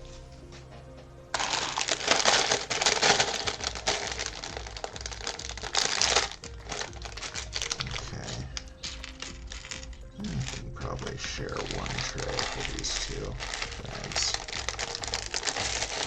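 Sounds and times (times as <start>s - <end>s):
plastic bags crinkling: 1.3s - 16.0s
plastic pieces clicking: 1.4s - 16.0s.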